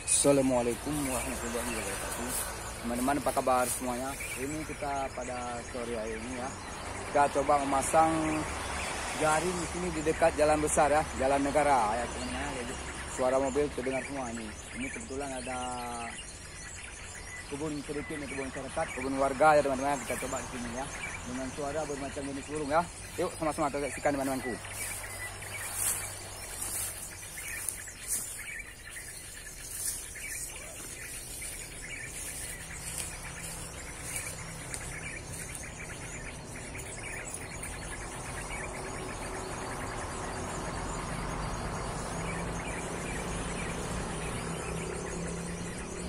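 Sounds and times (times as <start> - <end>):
high bird chirps: 0.0 - 46.0
road traffic noise: 0.0 - 46.0.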